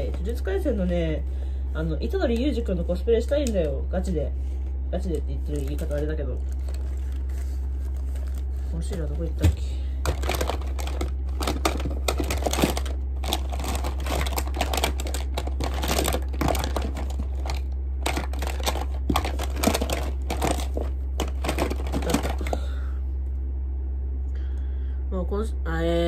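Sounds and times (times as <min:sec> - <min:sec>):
rummaging through plastic items: 0:00.0 - 0:04.2, 0:05.0 - 0:22.8
steady low hum: 0:00.0 - 0:26.0.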